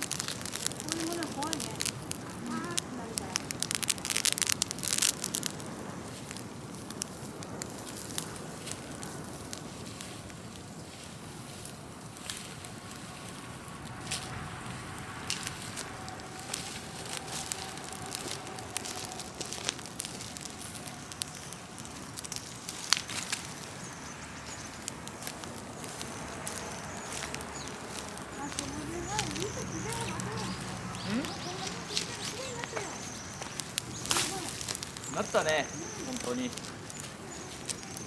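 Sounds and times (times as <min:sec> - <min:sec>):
bonfire crackling and popping: 0:00.0 - 0:38.0
rush of flame: 0:00.0 - 0:38.0.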